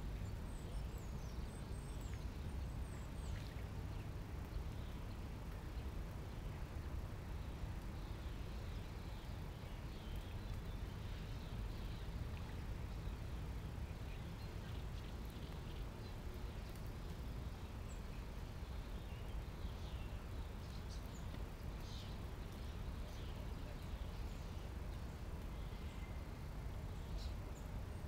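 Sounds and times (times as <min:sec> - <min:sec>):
faint birdsong chirps: 0:00.0 - 0:28.0
low outdoor rumble: 0:00.0 - 0:28.0.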